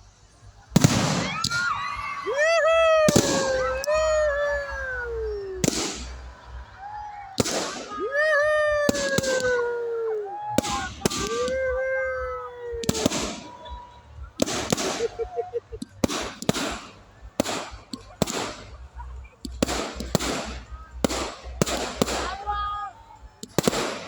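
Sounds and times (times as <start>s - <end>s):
fireworks bangs: 0.7s - 24.0s.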